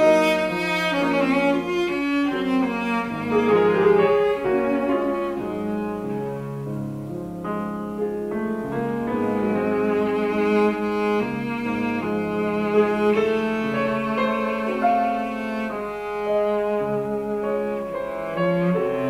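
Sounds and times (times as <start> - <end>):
bowed cello melody: 0.0 - 19.0
grand piano: 0.0 - 19.0.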